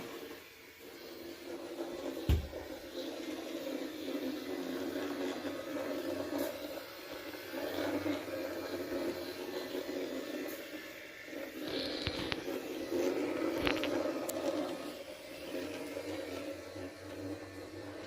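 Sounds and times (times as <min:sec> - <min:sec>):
robot vacuum whirring: 0:00.0 - 0:18.0.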